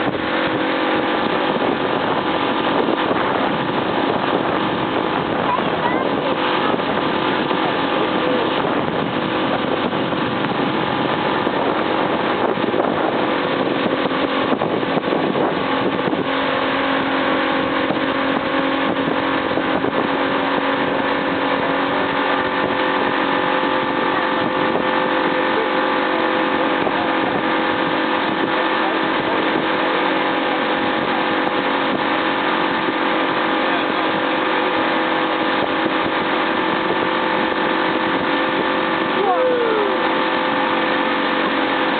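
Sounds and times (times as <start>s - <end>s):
motorboat engine droning: 0.0s - 41.9s
rush of wind and water: 0.0s - 41.9s.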